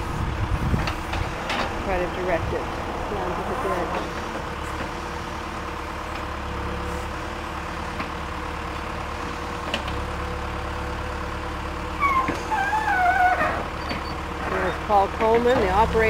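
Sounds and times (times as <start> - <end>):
hydraulic arm digging: 0.0 - 11.2, 11.8 - 16.0
diesel engine running: 0.0 - 16.0.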